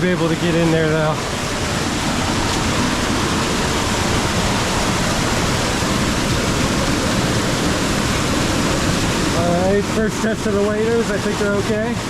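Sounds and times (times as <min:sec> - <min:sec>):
creek and waterfall gushing: 0:00.0 - 0:12.0.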